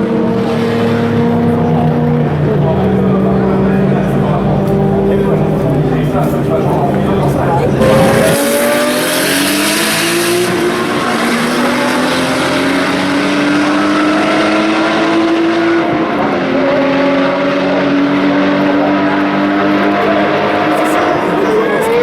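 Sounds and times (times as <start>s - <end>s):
racing car engine accelerating: 0.0s - 22.0s.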